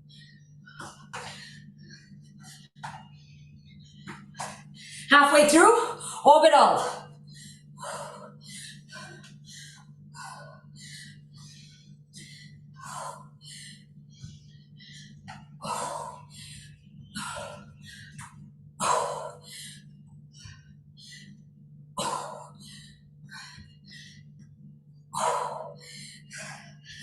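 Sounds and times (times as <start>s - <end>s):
woman breathing hard: 0.0s - 5.1s, 7.0s - 27.0s
steady low hum: 0.0s - 27.0s.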